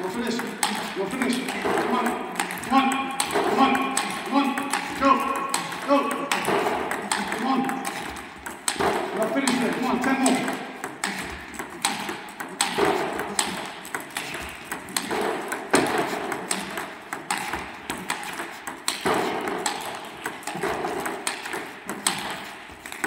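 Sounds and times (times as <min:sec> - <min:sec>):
table tennis balls clicking: 0:00.0 - 0:23.0.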